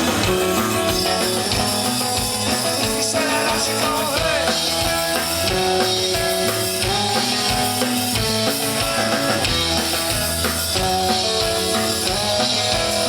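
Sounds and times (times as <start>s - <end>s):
drum kit steady beat: 0.0s - 13.0s
electric guitars playing chords: 0.0s - 13.0s.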